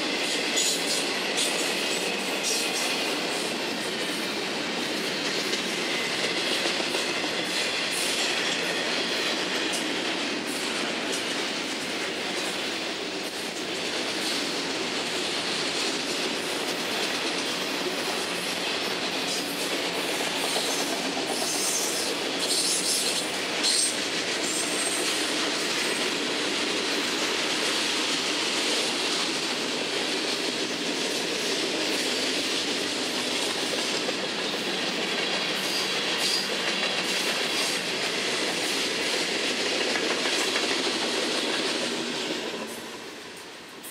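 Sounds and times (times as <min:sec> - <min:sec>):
freight train wheels on rails: 0:00.0 - 0:43.9.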